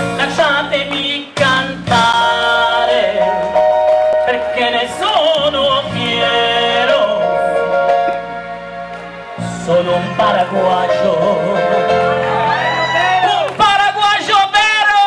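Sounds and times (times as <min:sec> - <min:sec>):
instrumental backing music: 0:00.0 - 0:15.0.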